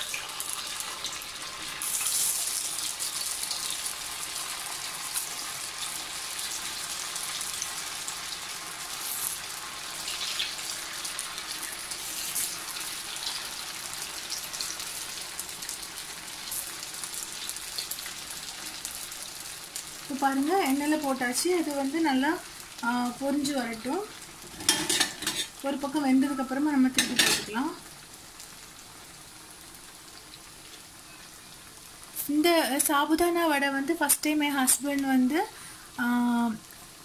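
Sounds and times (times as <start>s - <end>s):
patties deep-frying in hot oil: 0.0s - 37.0s.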